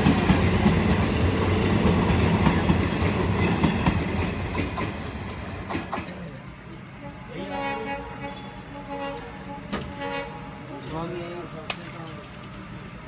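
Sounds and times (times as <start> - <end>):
passenger train passing: 0.0 - 13.0.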